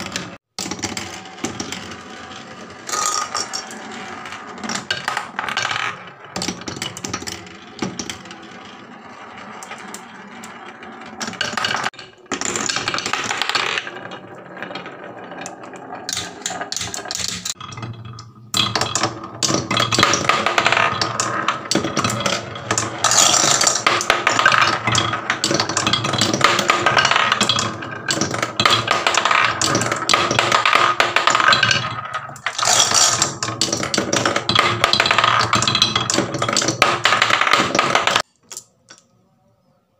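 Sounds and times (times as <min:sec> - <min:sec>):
marbles rattling on wooden run: 0:00.0 - 0:38.3.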